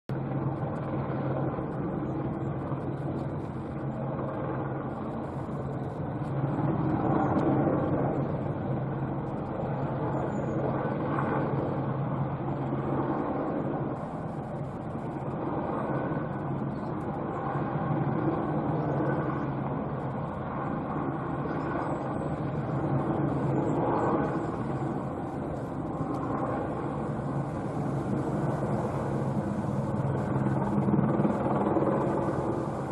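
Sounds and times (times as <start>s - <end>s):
helicopter hovering: 0.1s - 32.9s.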